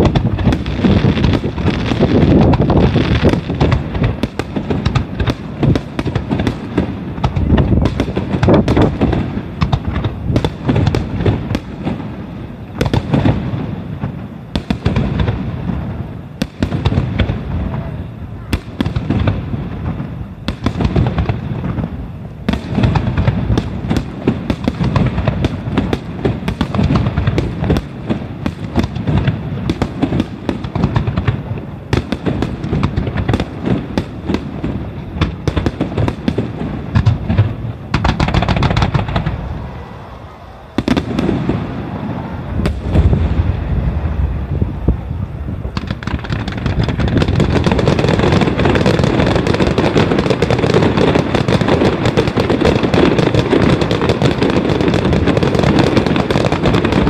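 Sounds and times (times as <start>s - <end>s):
fireworks crackling: 0.0s - 57.0s.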